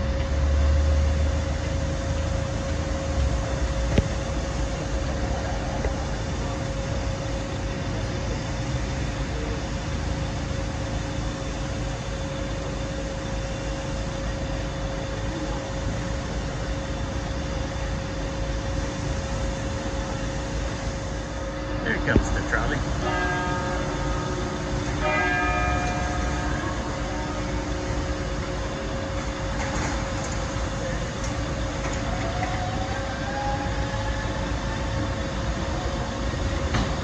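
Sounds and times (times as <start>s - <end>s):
truck engine idling: 0.0s - 32.8s.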